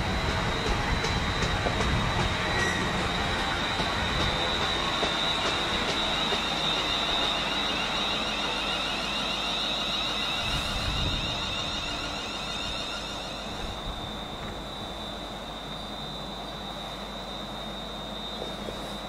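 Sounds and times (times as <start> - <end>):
high-pitched whine: 0.0 - 19.0
train rumbling: 0.0 - 19.0.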